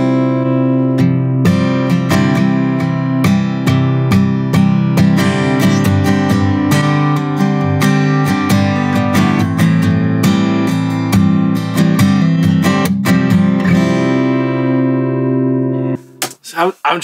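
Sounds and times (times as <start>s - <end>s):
acoustic guitar strumming: 0.0s - 16.4s.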